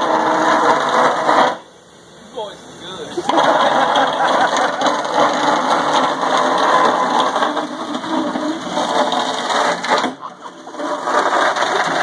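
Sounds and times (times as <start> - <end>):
machine engine running: 0.0 - 1.7, 2.6 - 12.0.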